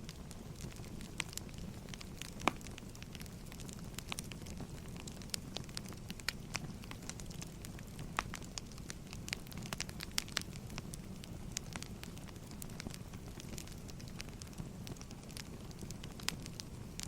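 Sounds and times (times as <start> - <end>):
fire low rumble: 0.0 - 17.0
fire popping and snapping: 0.0 - 17.0.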